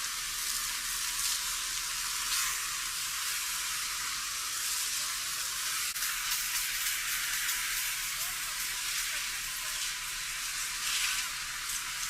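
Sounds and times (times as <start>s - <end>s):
fire crackling: 0.0s - 12.0s.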